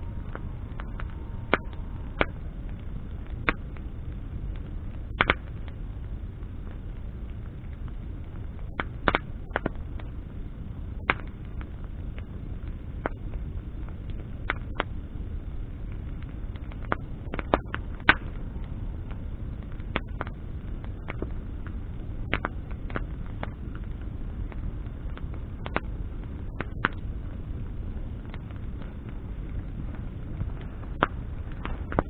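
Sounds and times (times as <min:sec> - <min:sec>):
campfire flames rumbling: 0:00.0 - 0:32.0
fire popping and crackling: 0:00.0 - 0:32.0.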